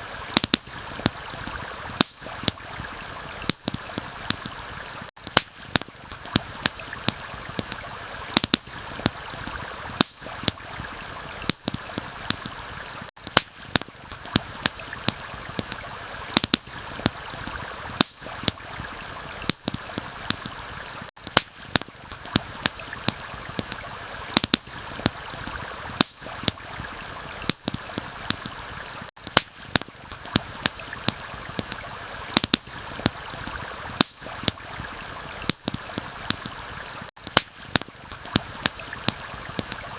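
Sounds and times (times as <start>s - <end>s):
campfire crackling: 0.0s - 39.9s
stream water flowing: 0.0s - 39.9s.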